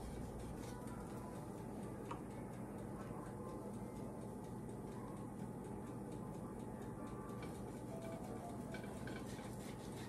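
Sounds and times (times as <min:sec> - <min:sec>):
crackling ticks: 0:00.0 - 0:10.0.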